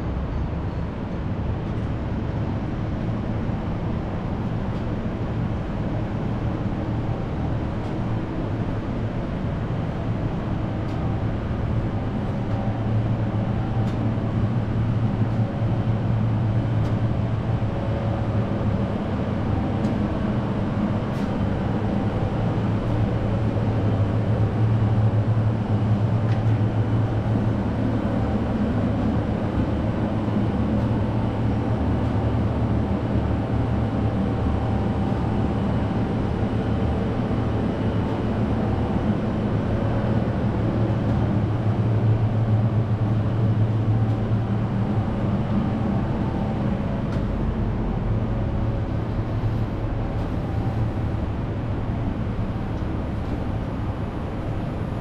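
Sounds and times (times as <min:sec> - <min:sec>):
low mechanical city hum: 0:00.0 - 0:55.0.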